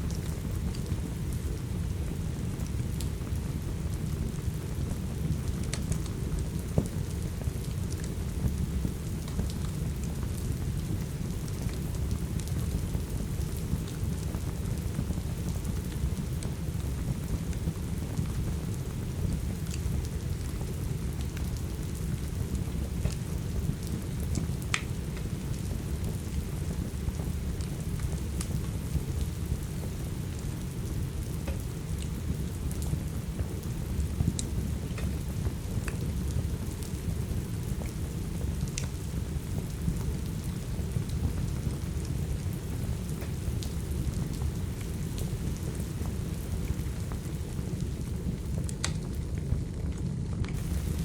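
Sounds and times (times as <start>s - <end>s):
steady rain: 0.0s - 51.0s
wood fire crackling and popping: 0.1s - 51.0s.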